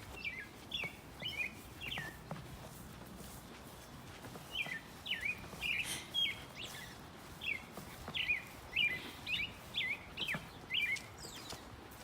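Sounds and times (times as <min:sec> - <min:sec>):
faint outdoor background noise: 0:00.0 - 0:12.0
songbird chirping: 0:00.0 - 0:12.0.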